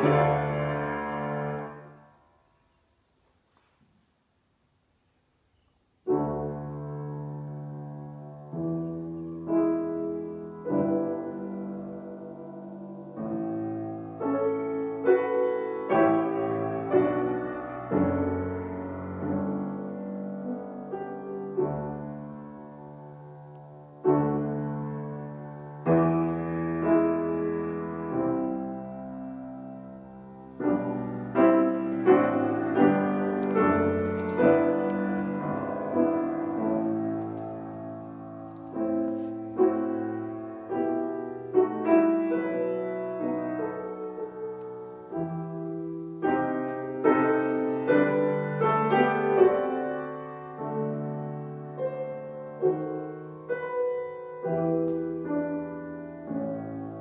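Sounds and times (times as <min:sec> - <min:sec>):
grand piano playing: 0:00.0 - 0:02.8, 0:06.0 - 0:57.0.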